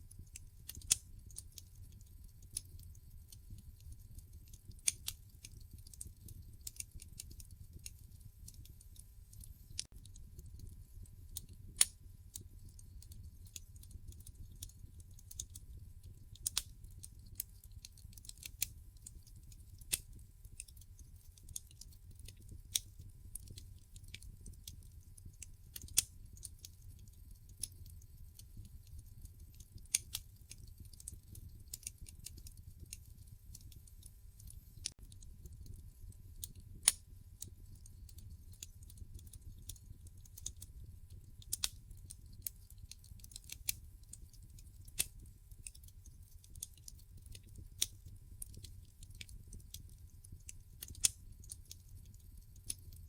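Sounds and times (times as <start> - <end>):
wood fire crackling in fireplace: 0.0 - 53.0.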